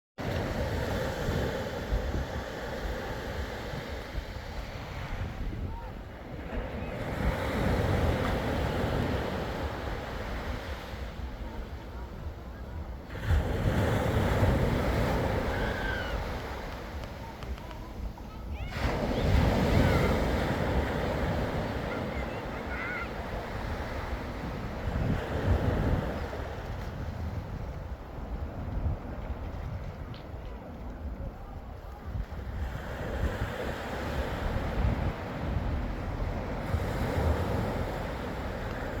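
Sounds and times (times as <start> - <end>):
waves breaking on shore: 0.2 - 39.0
wind buffeting microphone: 0.2 - 39.0.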